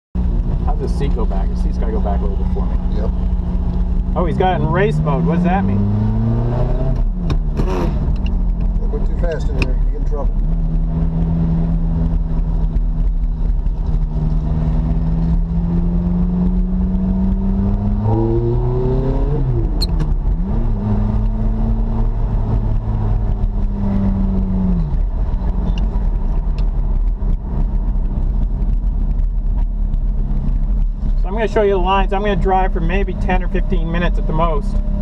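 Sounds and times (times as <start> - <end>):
car engine revving: 0.2 - 35.0.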